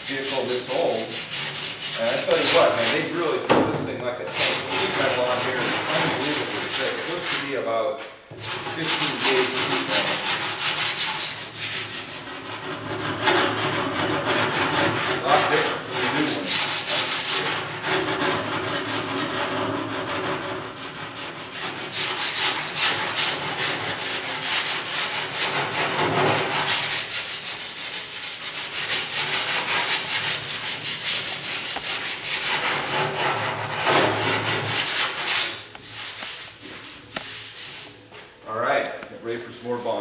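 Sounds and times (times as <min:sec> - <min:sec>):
sanding block scraping filler: 0:00.0 - 0:03.3, 0:04.2 - 0:07.6, 0:08.3 - 0:38.1, 0:39.4 - 0:40.0.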